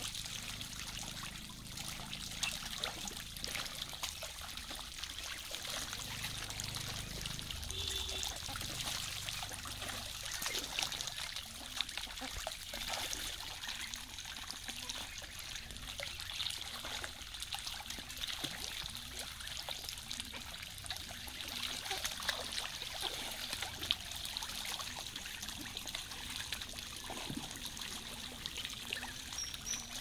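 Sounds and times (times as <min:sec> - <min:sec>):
ducks splashing in water: 0:00.0 - 0:30.0
stream water trickling: 0:00.0 - 0:30.0.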